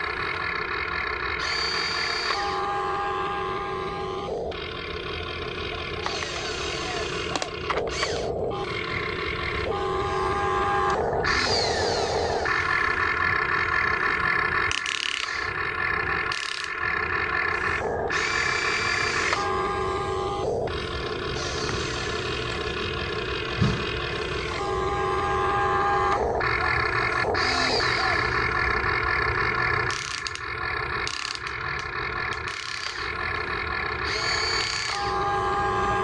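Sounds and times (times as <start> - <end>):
small electric motors whining: 0.0 - 36.0.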